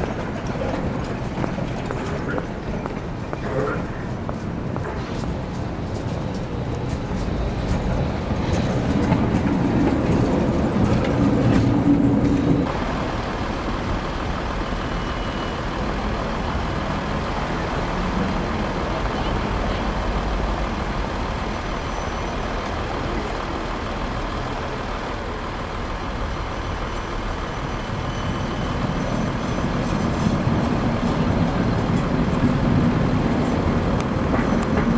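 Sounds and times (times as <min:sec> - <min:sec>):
traffic noise: 0:00.0 - 0:34.9
tram motor hum: 0:00.0 - 0:34.9.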